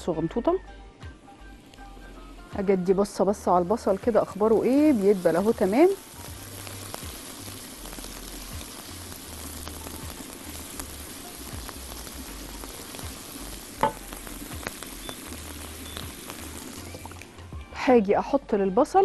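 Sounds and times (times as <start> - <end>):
onions sizzling in a frying pan: 1.2 - 17.6.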